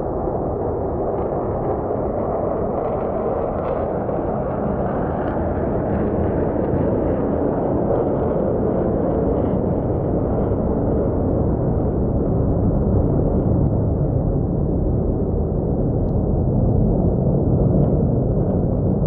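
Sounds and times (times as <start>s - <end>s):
jet engines rumbling overhead: 0.0s - 19.0s.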